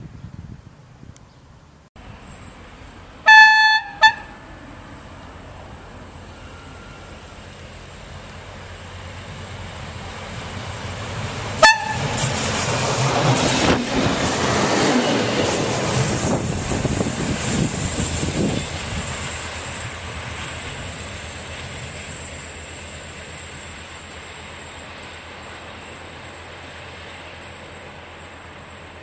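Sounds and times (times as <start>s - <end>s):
railcar engine hum: 0.0s - 29.0s.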